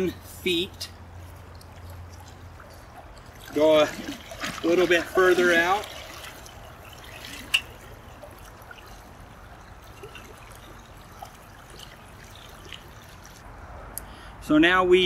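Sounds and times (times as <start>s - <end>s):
river water trickling: 0.0s - 13.7s.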